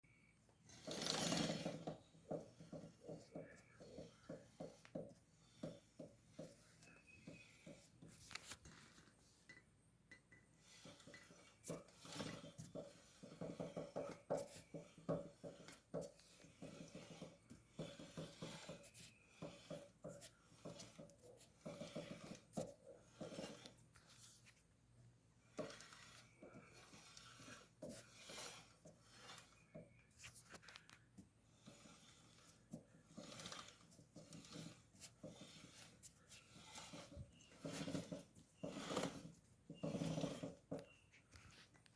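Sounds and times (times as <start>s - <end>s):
rear wheel rubbing and scraping: 0.5s - 9.5s, 10.2s - 41.9s.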